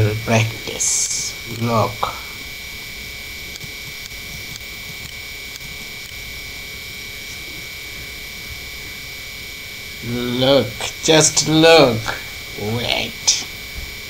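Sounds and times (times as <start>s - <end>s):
electrical hiss: 0.0s - 14.0s
low hum: 0.0s - 14.0s
thin high whine: 0.0s - 14.0s.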